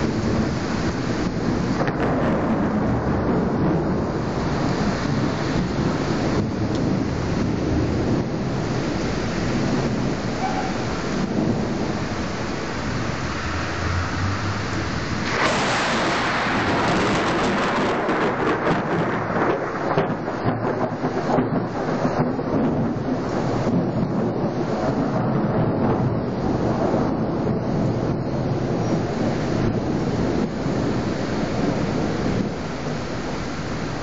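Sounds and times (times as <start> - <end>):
steady rain: 0.0 - 34.0
thunder cracking and rolling: 0.0 - 34.0.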